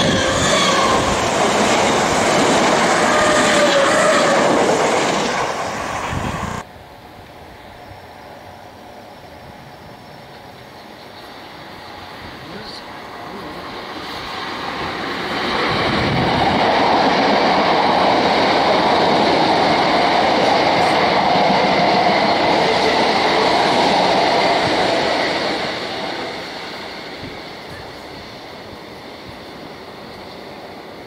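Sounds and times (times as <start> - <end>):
electric train passing: 0.0 - 31.0.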